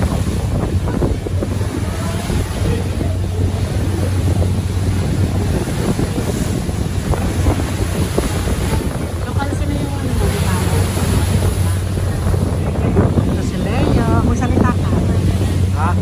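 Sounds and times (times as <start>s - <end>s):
low rumble of boat: 0.0s - 16.0s
sea water rushing: 0.0s - 16.0s
wind buffeting microphone: 0.0s - 16.0s.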